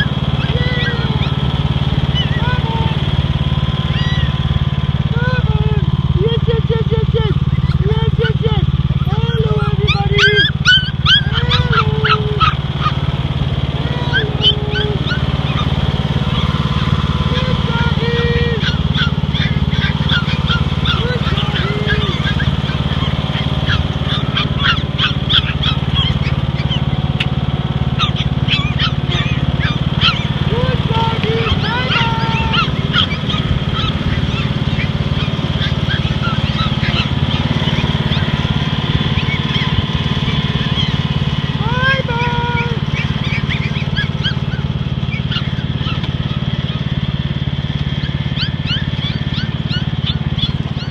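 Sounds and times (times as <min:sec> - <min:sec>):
puppies yipping and whining: 0:00.0 - 0:50.9
riding lawnmower engine running: 0:00.0 - 0:50.9.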